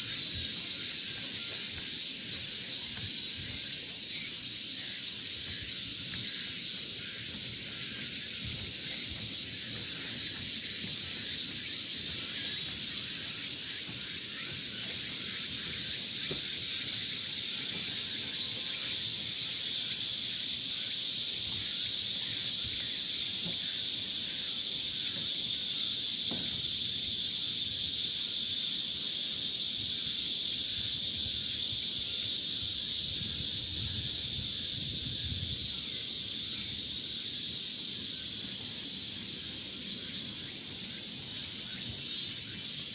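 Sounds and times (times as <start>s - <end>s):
insects shrilling in trees: 0.0s - 42.9s.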